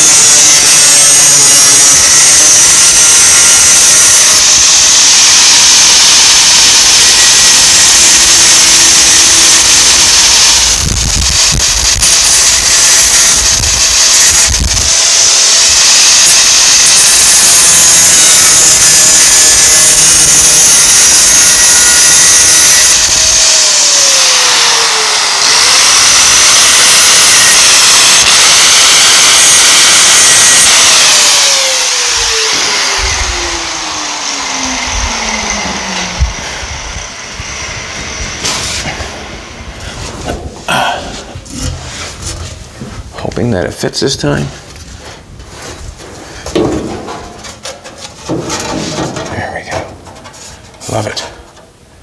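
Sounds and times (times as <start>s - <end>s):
grinder winding down whine: 0.0s - 41.9s
angle grinder cutting metal sheet: 0.0s - 45.1s, 45.7s - 51.3s.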